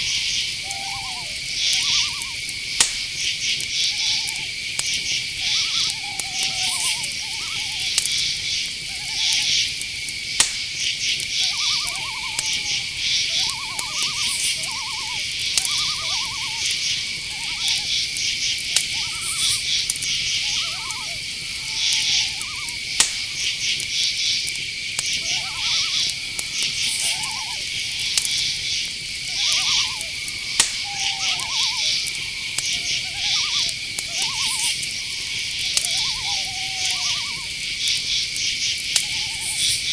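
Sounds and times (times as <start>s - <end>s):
crickets and insects chirring: 0.0s - 39.9s
owl hoots: 0.0s - 39.9s
sharp clicks: 1.4s - 39.8s.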